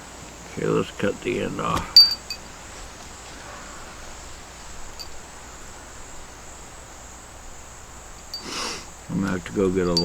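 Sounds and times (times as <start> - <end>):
insects chorus: 0.0 - 10.0.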